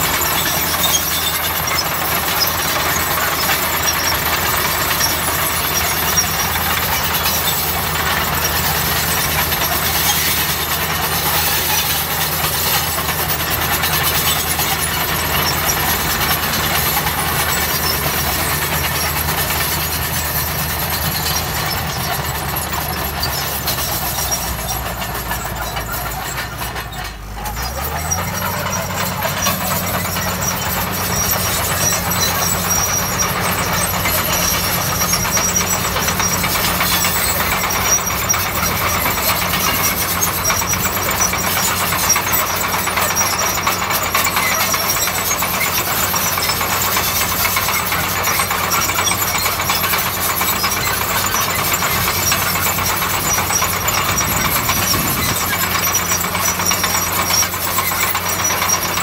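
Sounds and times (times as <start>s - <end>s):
bulldozer diesel engine running: 0.0s - 59.0s
thin high squeal: 0.0s - 59.0s.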